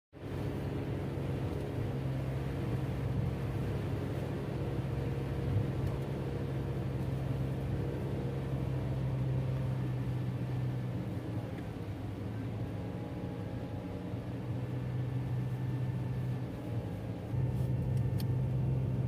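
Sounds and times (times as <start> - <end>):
engine and road hum in car: 0.1 - 19.0.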